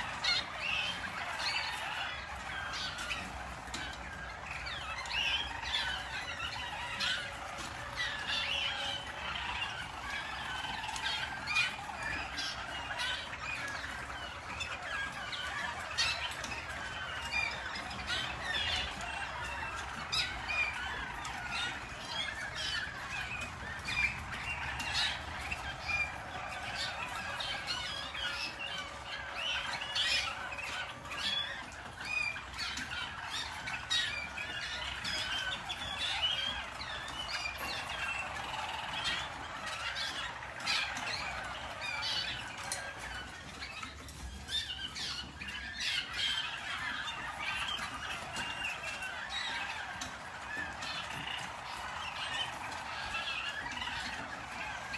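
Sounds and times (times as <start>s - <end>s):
canaries singing in chorus: 0.0s - 54.9s.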